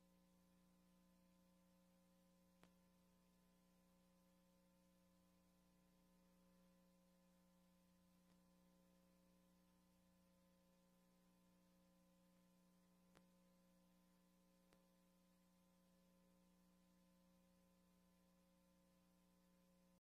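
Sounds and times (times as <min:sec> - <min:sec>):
faint tape playback hum: 0:00.0 - 0:20.0.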